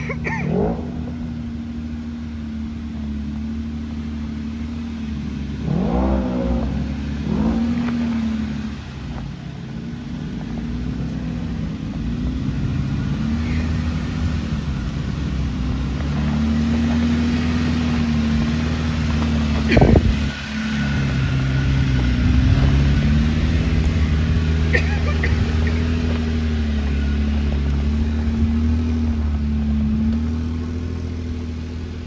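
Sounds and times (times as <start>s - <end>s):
engine running at low revs: 0.0s - 32.0s.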